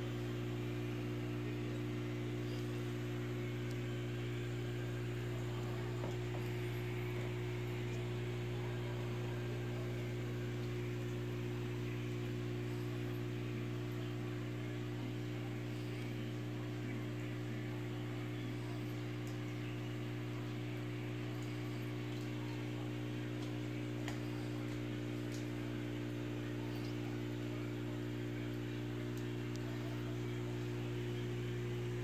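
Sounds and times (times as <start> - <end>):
aquarium air pump hum: 0.0 - 32.0.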